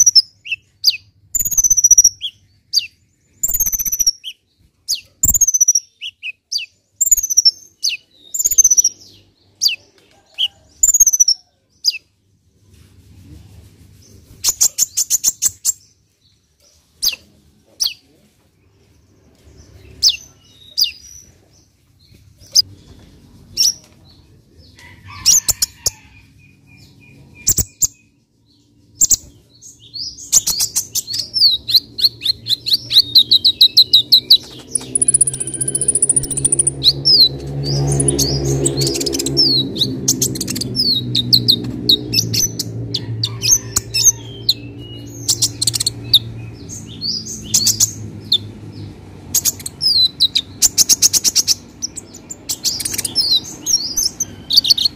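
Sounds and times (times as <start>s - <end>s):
bird chirping and trilling: 0.0s - 12.1s, 14.4s - 16.4s, 19.5s - 21.4s, 25.2s - 54.9s.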